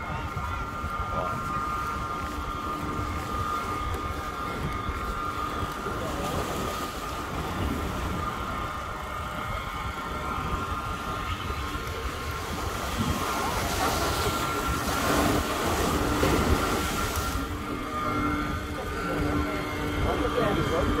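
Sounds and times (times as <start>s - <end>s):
faint high whine: 0.0s - 21.0s
wind on microphone: 0.0s - 21.0s.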